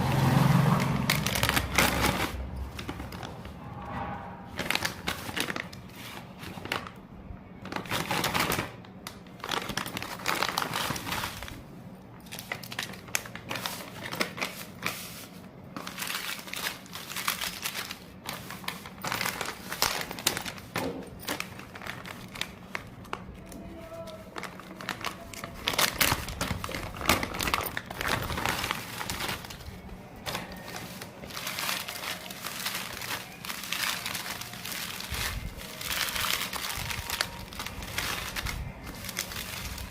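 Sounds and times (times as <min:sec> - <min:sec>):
plastic wrapper crinkling: 0:00.2 - 0:03.5, 0:04.6 - 0:39.9.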